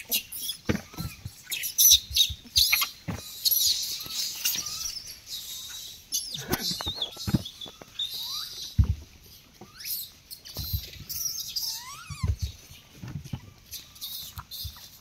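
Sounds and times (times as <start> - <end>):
high-pitched chirps and squeaks: 0.0 - 15.0
rustles: 0.0 - 15.0.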